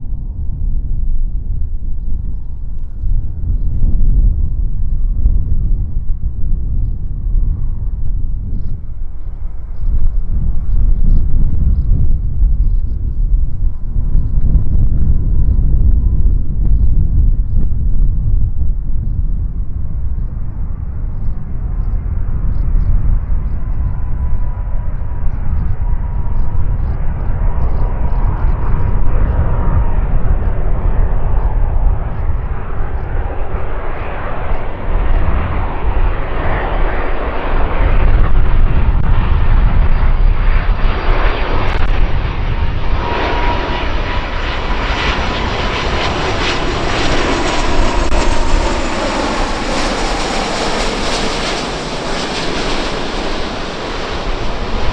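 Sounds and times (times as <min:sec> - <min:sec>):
jet engines rushing: 0:01.4 - 0:54.9.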